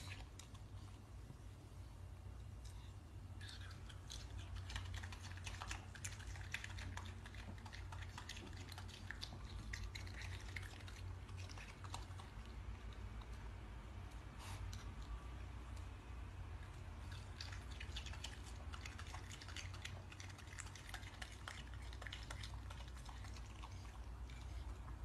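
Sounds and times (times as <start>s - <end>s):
low steady hum: 0.0s - 25.0s
raccoon chewing wetly: 0.0s - 25.0s.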